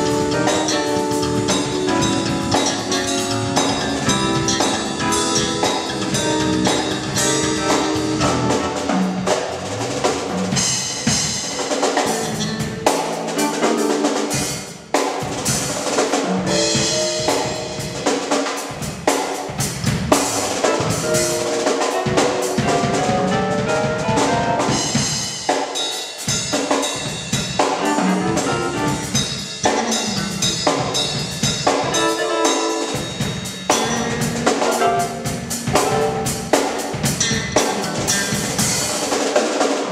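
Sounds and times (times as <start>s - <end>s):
bass guitar: 0.0s - 14.7s, 15.3s - 25.3s, 27.3s - 32.3s, 32.9s - 39.0s
drum kit groove: 0.0s - 39.9s
keyboard accompaniment: 0.0s - 39.9s.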